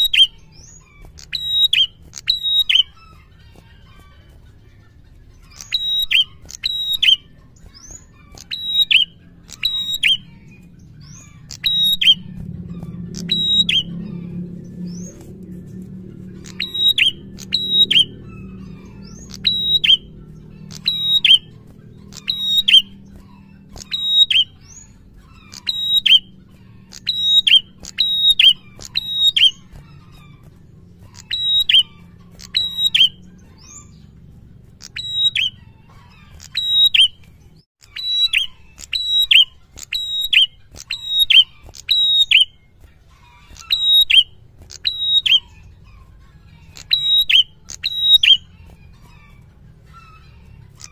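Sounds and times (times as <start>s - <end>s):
bird chirping: 0.0s - 50.9s.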